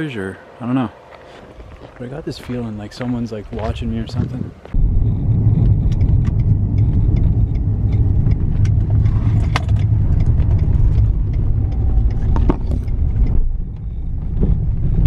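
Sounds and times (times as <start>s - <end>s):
car engine and road rumble: 1.0s - 15.0s.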